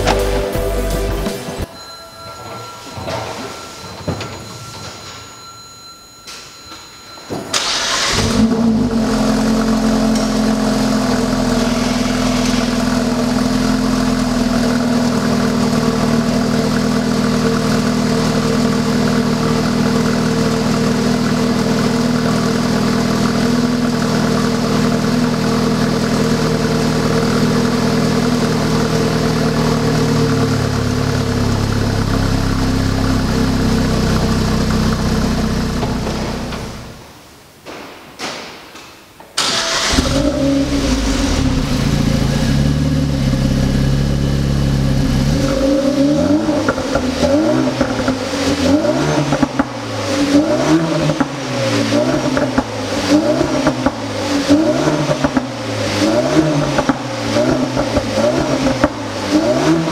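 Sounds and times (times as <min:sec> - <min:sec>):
car engine cranking: 0:07.5 - 0:37.0, 0:39.4 - 0:59.9
car engine revving and idling: 0:07.6 - 0:37.0, 0:39.4 - 0:59.9.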